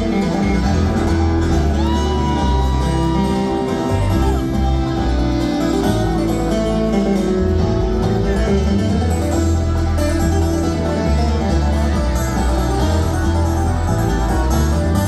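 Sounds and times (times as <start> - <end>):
acoustic guitar: 0.0 - 15.0
banjo: 0.0 - 15.0
upright bass: 0.0 - 15.0.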